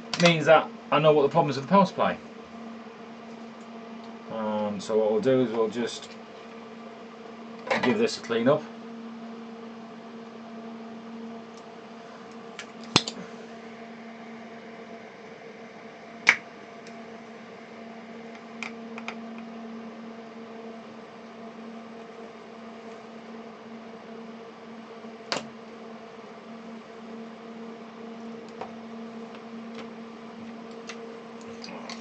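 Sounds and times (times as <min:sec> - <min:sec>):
electrical equipment humming: 0:00.0 - 0:32.0.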